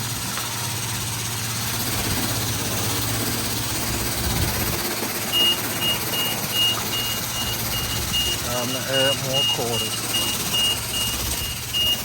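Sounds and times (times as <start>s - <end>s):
hiss of spraying water: 0.0s - 12.0s
low machine hum: 0.0s - 12.0s.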